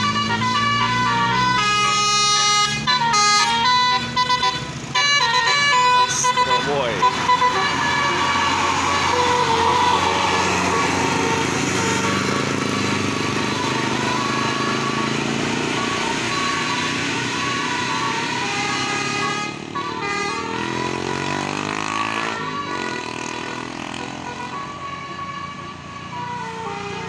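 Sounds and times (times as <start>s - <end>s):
bus engine noise: 0.0s - 27.0s
multi-tone bus horn tune: 0.0s - 27.0s.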